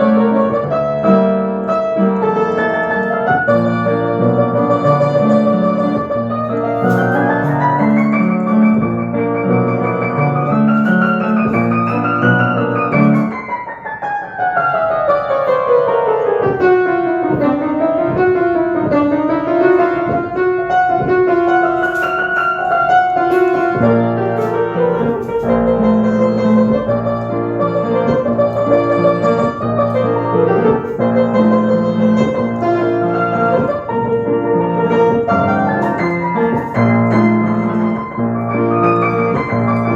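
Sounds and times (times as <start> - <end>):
piano keyboard music: 0.0 - 39.9.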